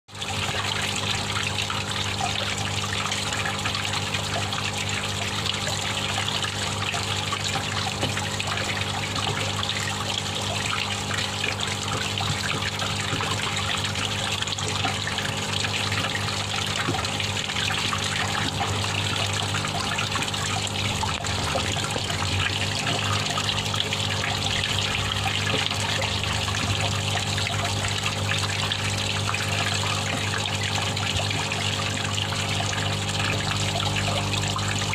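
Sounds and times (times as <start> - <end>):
water trickling and bubbling: 0.1 - 34.9.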